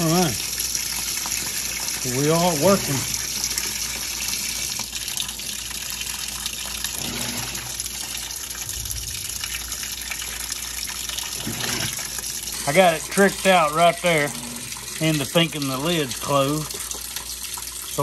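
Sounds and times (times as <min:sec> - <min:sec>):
water gushing into washer tub: 0:00.0 - 0:18.0.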